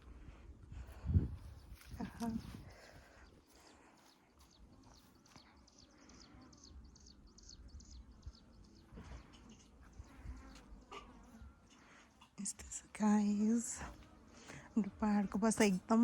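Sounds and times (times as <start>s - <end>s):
faint bird chirping: 1.2s - 16.0s.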